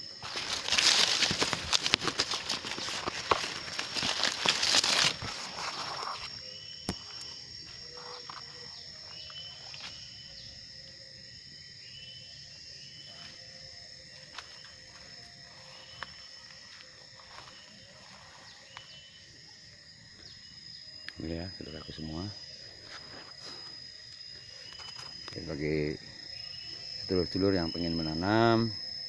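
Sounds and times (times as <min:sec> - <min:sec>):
insects buzzing: 0:00.0 - 0:29.0.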